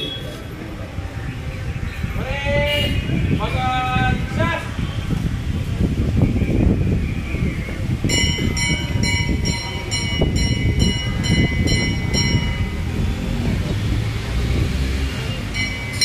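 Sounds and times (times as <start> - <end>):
low rumbling noise: 0.5 - 16.0.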